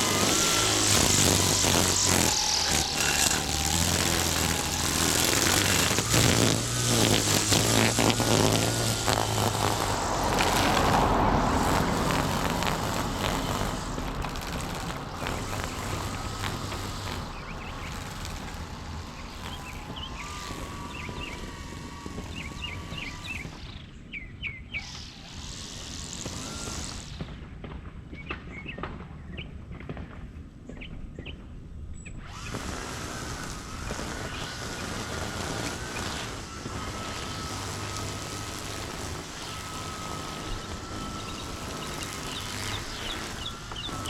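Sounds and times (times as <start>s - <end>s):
broad background noise: 0.0s - 24.1s, 32.2s - 44.0s
engine running with low hum: 0.0s - 24.2s, 32.4s - 44.0s
birds chirping: 0.0s - 27.2s, 30.7s - 44.0s.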